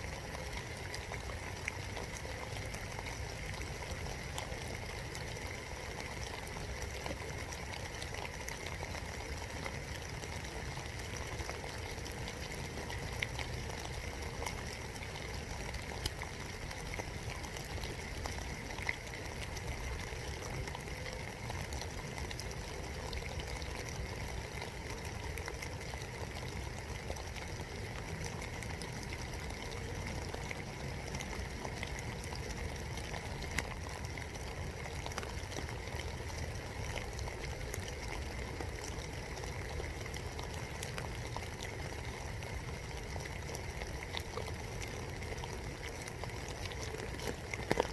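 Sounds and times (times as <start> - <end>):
steady rain patter: 0.0 - 47.9.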